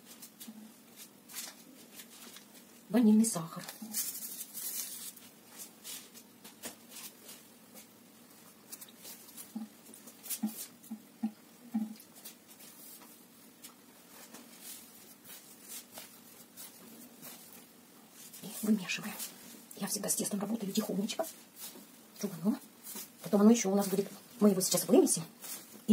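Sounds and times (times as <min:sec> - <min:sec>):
hands kneading dough: 0:00.0 - 0:25.9.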